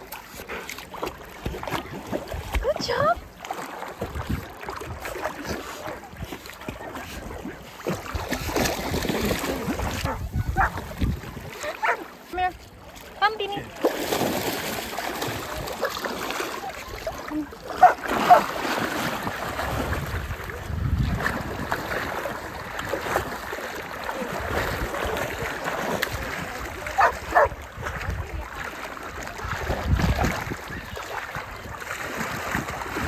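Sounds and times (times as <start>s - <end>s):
sea water sloshing and splashing: 0.0s - 33.0s.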